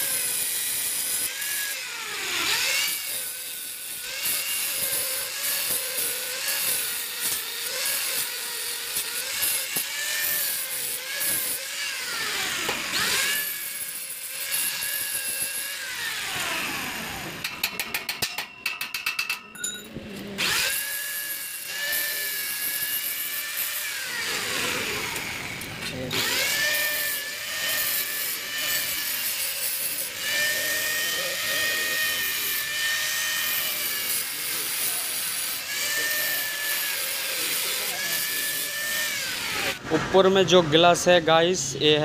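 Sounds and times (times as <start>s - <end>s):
angle grinder grinding steel: 0.0s - 40.0s.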